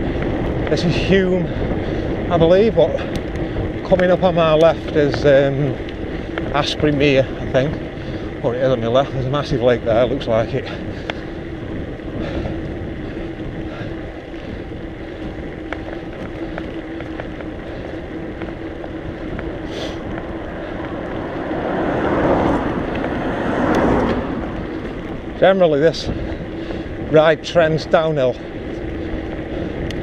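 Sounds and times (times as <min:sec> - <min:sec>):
steady low hum: 0:00.0 - 0:30.0
wind on microphone: 0:00.0 - 0:30.0.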